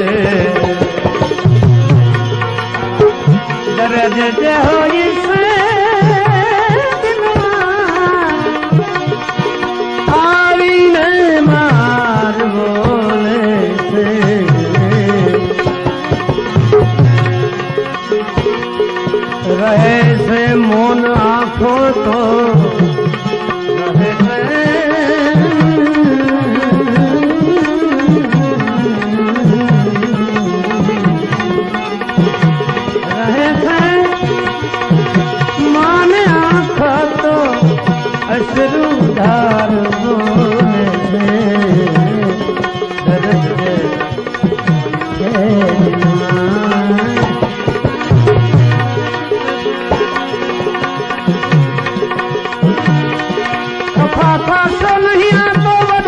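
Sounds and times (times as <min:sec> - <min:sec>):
plucked strings: 0:00.0 - 0:56.0
tabla playing rhythm: 0:00.0 - 0:56.0.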